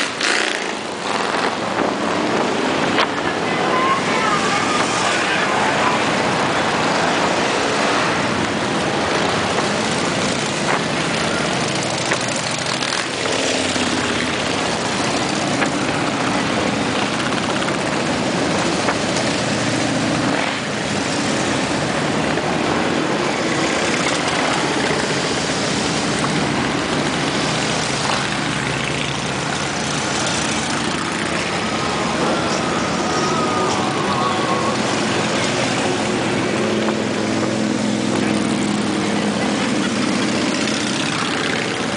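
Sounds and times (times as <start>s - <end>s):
motorcycles riding past: 0.0s - 41.9s.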